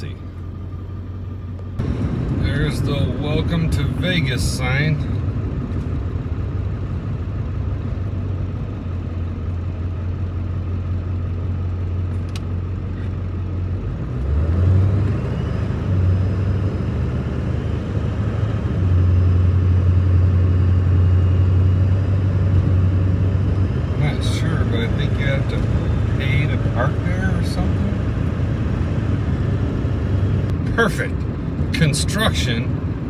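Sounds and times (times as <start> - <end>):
car engine and road drone: 0.0 - 33.0.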